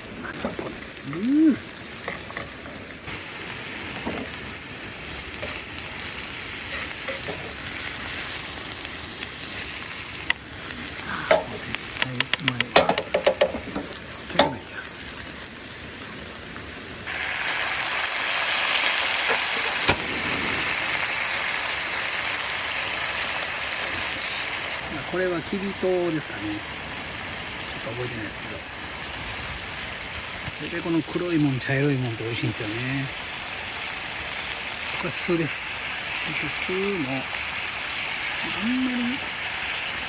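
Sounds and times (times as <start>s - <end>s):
onion sizzling in a pan: 0.0s - 40.0s.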